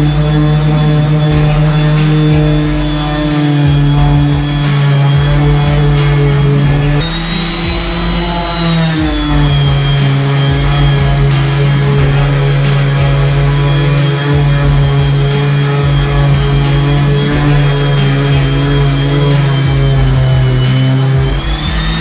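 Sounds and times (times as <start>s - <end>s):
faint regular beat: 0.0s - 22.0s
sustained low notes: 0.0s - 22.0s.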